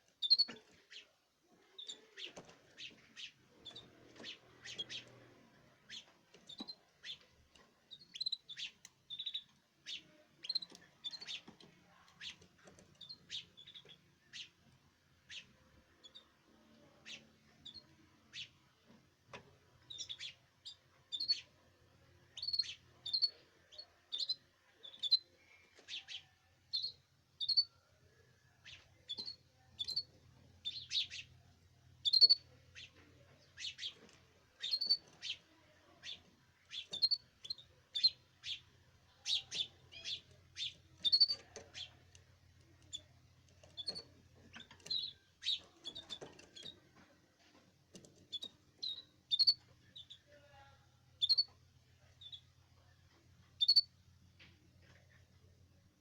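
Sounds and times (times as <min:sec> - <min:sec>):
canaries chirping: 0:00.0 - 0:56.0.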